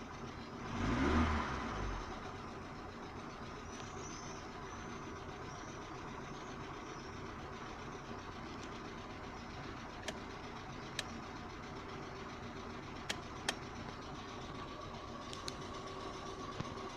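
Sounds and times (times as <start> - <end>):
car engine idling: 0.0 - 16.9
sharp engine clicks: 0.1 - 16.9.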